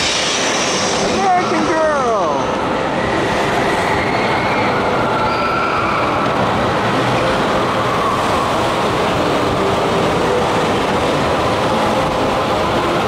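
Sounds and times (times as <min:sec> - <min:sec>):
log flume water rushing: 0:00.0 - 0:13.0.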